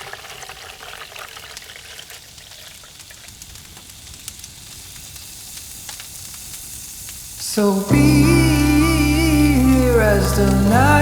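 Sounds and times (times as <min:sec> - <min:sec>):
food sizzling in a pan: 0:00.0 - 0:11.0
wood fire crackling: 0:00.2 - 0:11.0.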